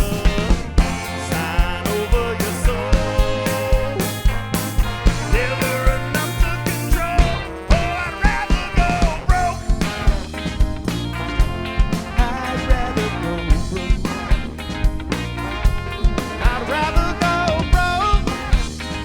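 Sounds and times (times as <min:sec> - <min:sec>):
bass: 0:00.0 - 0:19.0
drum kit beat: 0:00.0 - 0:19.0
sliding lead melody: 0:00.0 - 0:19.0.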